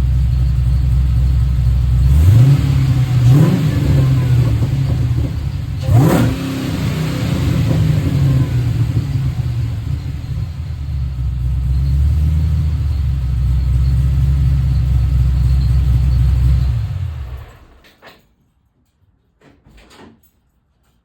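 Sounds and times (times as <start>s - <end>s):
car engine running: 0.0s - 17.8s.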